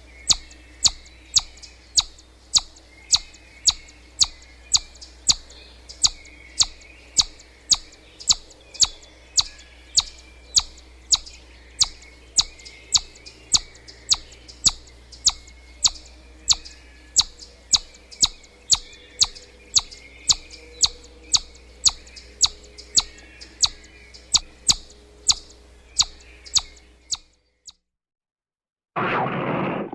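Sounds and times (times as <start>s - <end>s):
chipmunk chip call: 0.0s - 27.3s
faint outdoor ambience: 0.0s - 27.7s.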